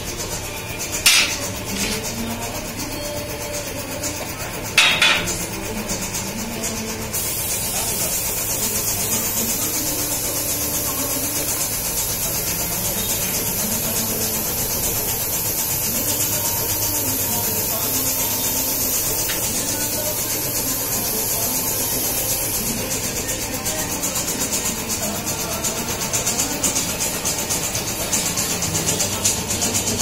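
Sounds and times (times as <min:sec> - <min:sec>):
compressed air hissing: 0:00.0 - 0:30.0.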